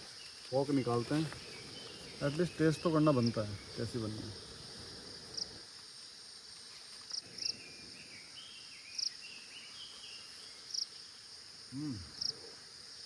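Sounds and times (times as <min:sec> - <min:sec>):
insect chirps: 0:00.0 - 0:13.0
insects buzzing: 0:00.0 - 0:13.0.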